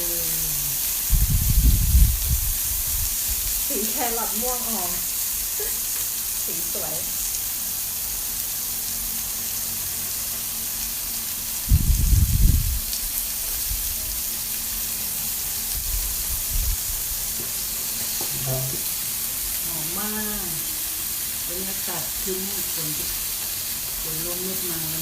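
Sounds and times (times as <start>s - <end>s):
meat sizzling on a grill: 0.0s - 25.0s.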